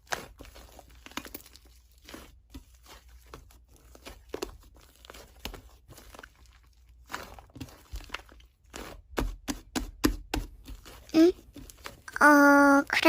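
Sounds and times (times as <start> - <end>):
slime squished by hand: 0.0 - 12.1.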